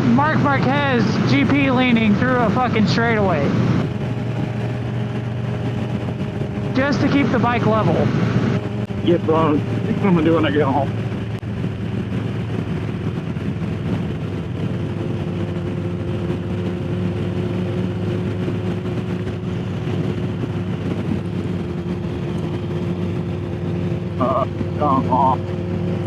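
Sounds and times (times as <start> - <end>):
motorcycle engine cruising: 0.0 - 26.0
wind noise: 0.0 - 26.0.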